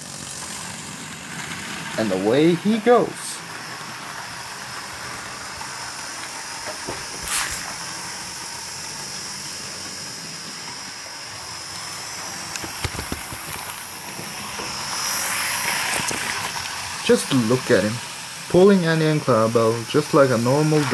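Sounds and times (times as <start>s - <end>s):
small electric motor whirring: 0.0s - 20.9s
wheels clicking over rails: 0.0s - 20.9s.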